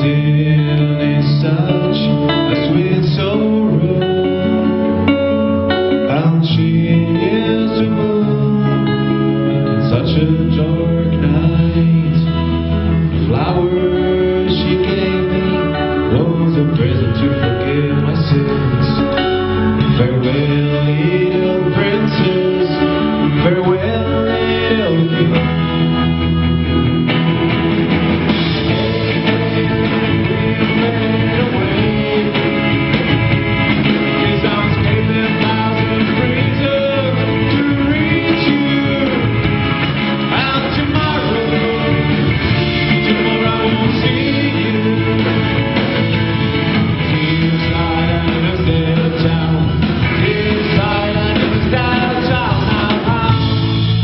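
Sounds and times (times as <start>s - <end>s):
man singing: 0.0s - 26.8s, 28.1s - 54.0s
live band playing: 0.0s - 54.0s.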